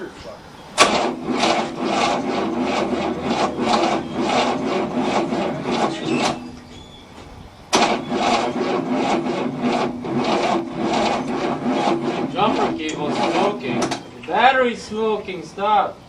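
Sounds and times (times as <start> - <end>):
starter motor cranking engine: 0.8 - 14.5.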